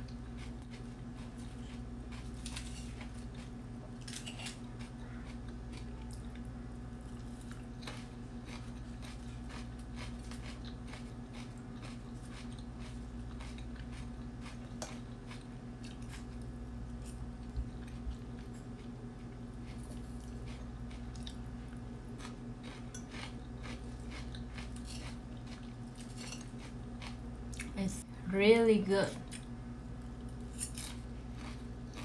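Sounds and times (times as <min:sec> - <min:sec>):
chewing crisp lettuce: 0:00.0 - 0:27.8, 0:29.2 - 0:32.0
steady low hum: 0:00.0 - 0:32.0.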